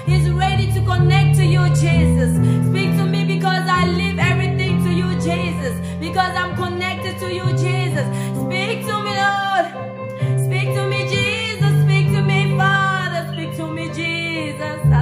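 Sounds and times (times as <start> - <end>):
instrumental backing with bass: 0.0 - 15.0
woman singing: 0.0 - 15.0.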